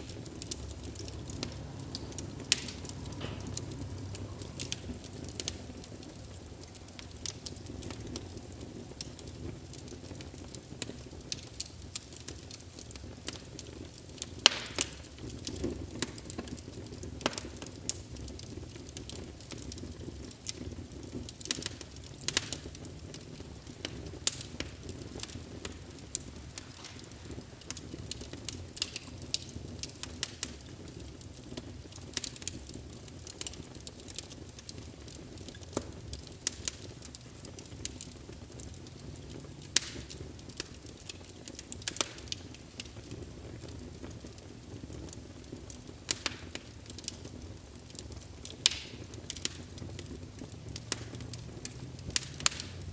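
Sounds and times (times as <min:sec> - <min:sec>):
low rumble of flames: 0:00.0 - 0:52.9
wood fire crackling: 0:00.0 - 0:52.9.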